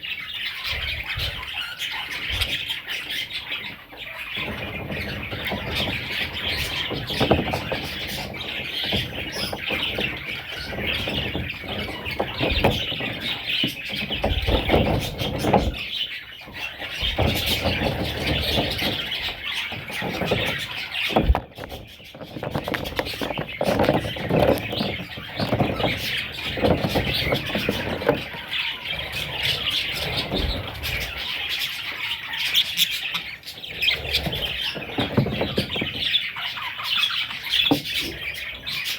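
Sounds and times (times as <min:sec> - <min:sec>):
budgerigars chattering and squawking: 0:00.0 - 0:38.9
rustles: 0:00.5 - 0:38.9.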